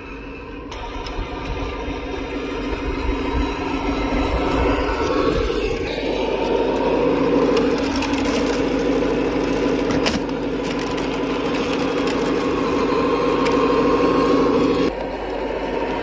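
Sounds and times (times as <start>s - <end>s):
simulated diesel truck engine: 0.0s - 16.0s
thin steady whine: 0.0s - 16.0s.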